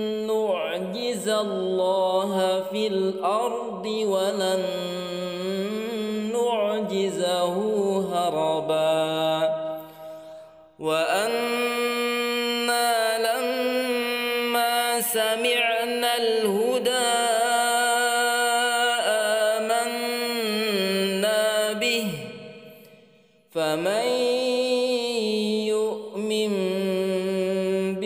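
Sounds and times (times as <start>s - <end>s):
man chanting melodically: 0.0s - 9.8s, 10.8s - 22.6s, 23.5s - 28.0s.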